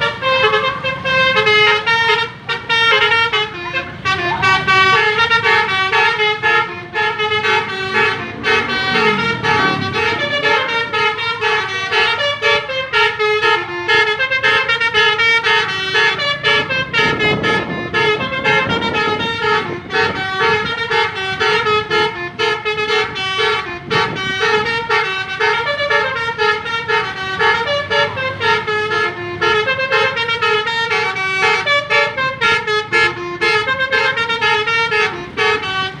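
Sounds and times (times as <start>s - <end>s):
multi-tone bus horn tune: 0.0s - 36.0s.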